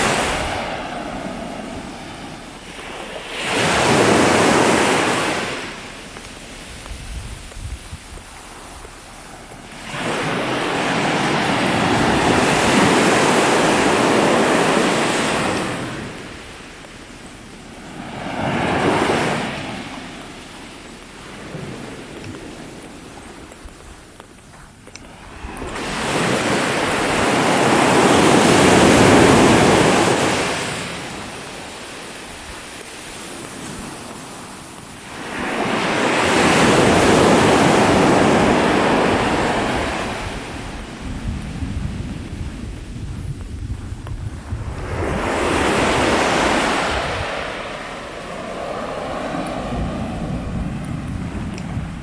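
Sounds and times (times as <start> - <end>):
ocean wave breaking on shore: 0.0 - 6.9, 8.4 - 16.8, 17.6 - 22.8, 25.1 - 42.6, 44.4 - 52.0.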